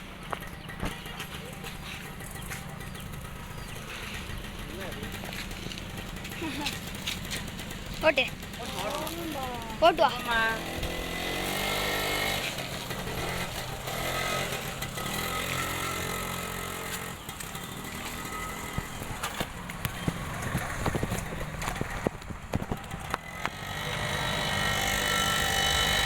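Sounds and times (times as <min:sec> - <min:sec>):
small motorbike engine running: 0:00.0 - 0:26.0.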